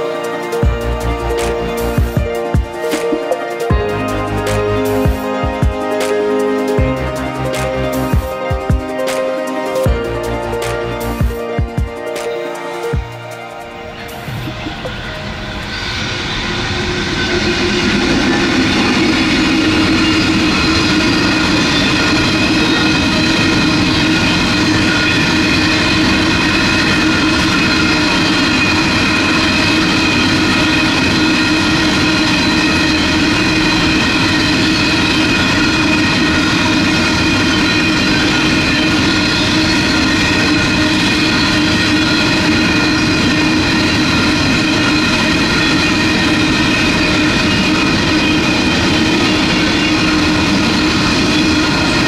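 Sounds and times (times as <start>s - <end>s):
locomotive engine hum: 0.0s - 52.0s
train wagons rumbling: 0.0s - 52.0s.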